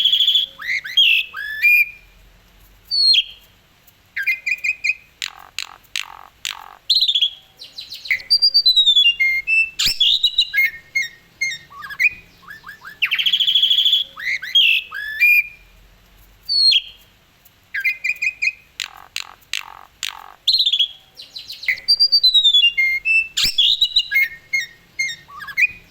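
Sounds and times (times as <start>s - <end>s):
starling singing: 0.0s - 2.0s, 4.2s - 15.6s, 17.7s - 25.9s.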